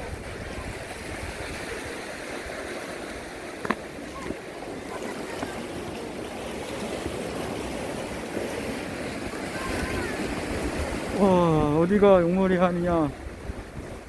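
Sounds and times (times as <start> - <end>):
surf on rocky shore: 0.0 - 14.0.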